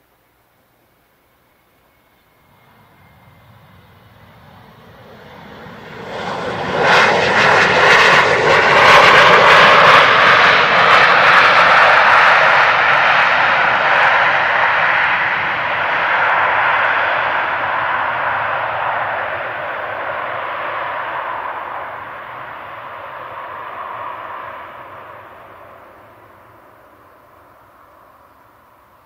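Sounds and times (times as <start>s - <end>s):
jet aircraft engines roaring: 1.8s - 29.0s.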